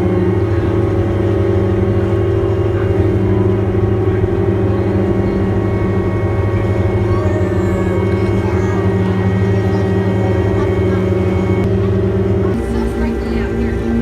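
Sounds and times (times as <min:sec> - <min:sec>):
ferry engine droning: 0:00.0 - 0:14.0.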